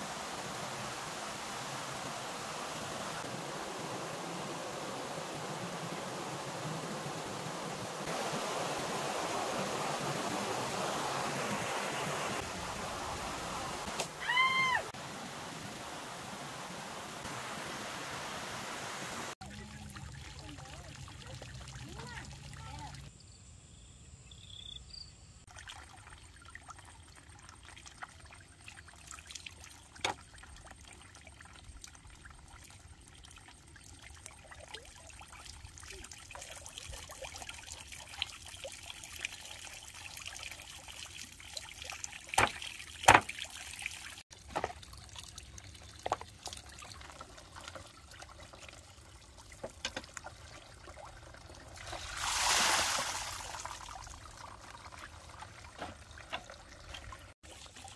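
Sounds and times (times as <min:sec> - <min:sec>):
water trickling and pouring: 0:00.0 - 0:23.1, 0:25.5 - 0:57.9.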